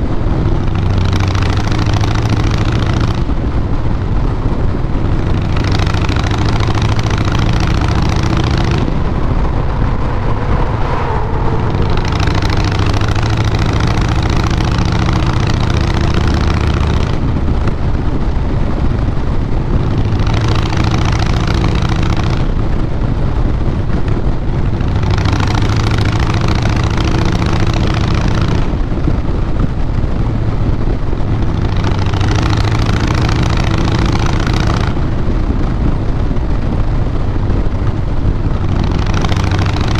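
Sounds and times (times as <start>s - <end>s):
motorcycle exhaust: 0.0s - 39.9s.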